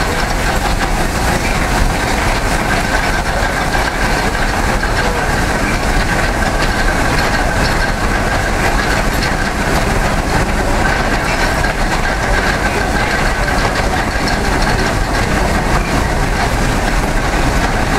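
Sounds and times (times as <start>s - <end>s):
mechanical clatter and rumble: 0.0s - 17.9s
steady mechanical whine: 0.0s - 17.9s.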